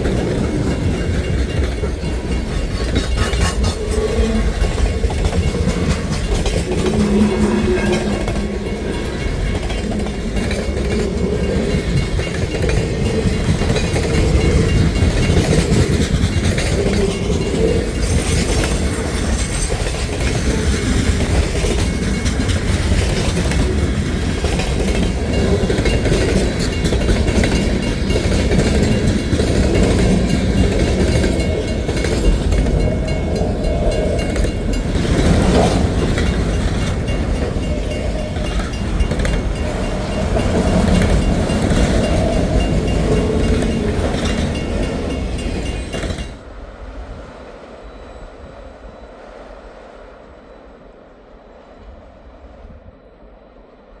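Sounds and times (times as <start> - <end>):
wheels clattering over rail joints: 0.0 - 46.4
freight train rumbling past: 0.0 - 54.0.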